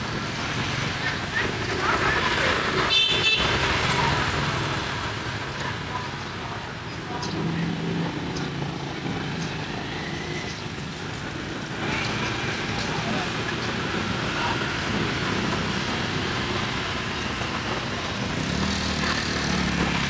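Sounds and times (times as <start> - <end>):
passing road vehicles: 0.0 - 20.0.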